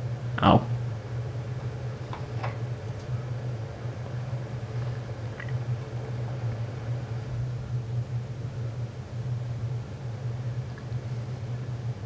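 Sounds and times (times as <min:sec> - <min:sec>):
power supply humming: 0:00.0 - 0:12.0.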